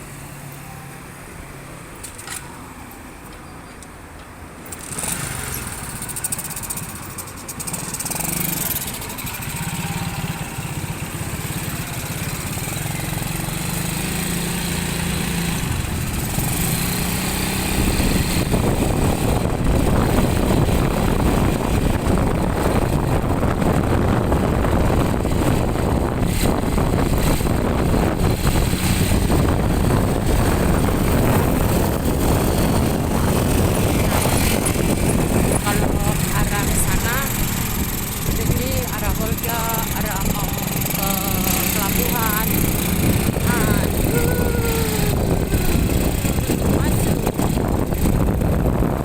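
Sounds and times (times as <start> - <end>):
motorcycle engine running: 4.8 - 49.0
wind rushing on microphone: 9.5 - 49.0.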